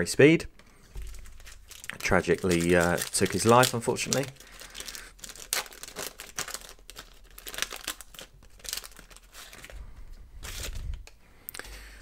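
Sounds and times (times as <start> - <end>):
cards rustling: 0.6 - 9.8, 10.4 - 11.7
plastic wrapper crinkling and tearing: 0.6 - 11.2.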